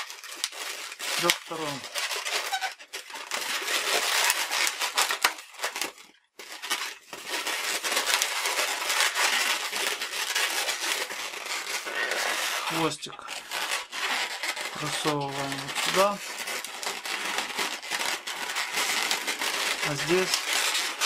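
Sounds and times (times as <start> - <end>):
balloon being twisted and rubbed: 0.0 - 21.0.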